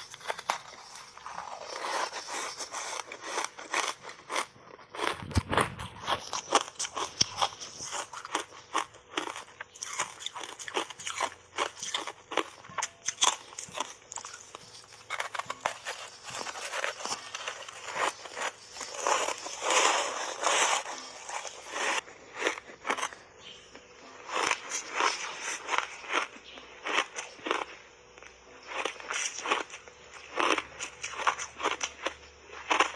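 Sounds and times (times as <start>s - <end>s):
ice being bitten and chewed: 0.0s - 32.9s.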